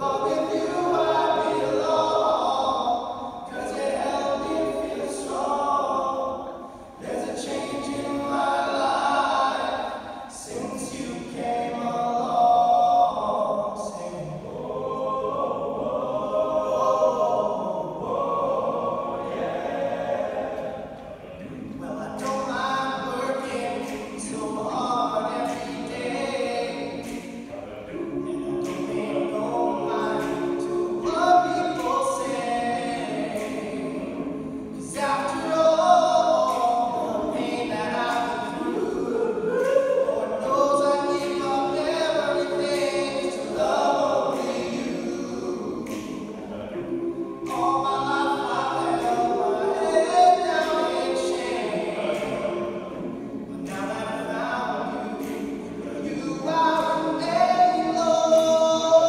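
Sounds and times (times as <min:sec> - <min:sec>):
male a cappella group singing: 0:00.0 - 0:59.0.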